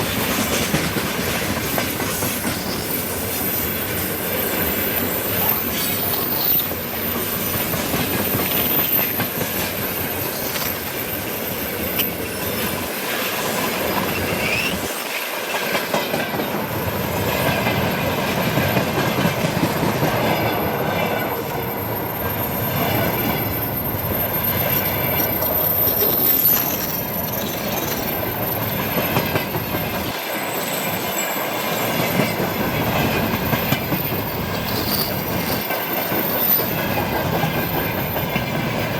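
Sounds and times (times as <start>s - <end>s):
train wheels clattering on rails: 0.0s - 38.9s
wheel squeal: 1.7s - 15.7s, 20.4s - 38.9s.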